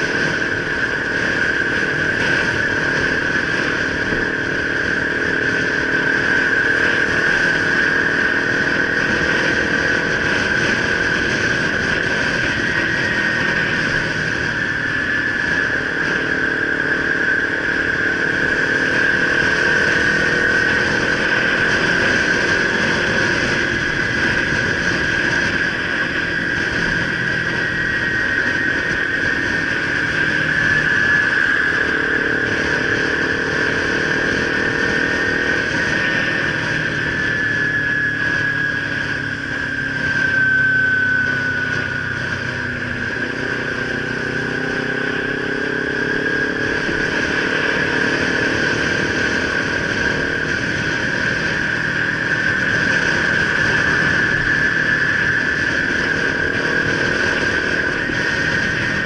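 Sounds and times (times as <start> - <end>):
high-pitched whine: 0.0 - 59.0
motorcycle engine accelerating: 0.0 - 59.0
wind and road noise: 0.0 - 59.0.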